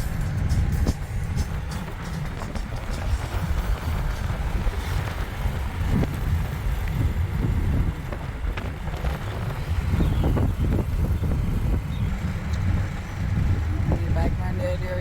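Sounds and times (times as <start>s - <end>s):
car road and engine rumble: 0.0s - 15.0s
wind buffeting microphone: 0.0s - 15.0s.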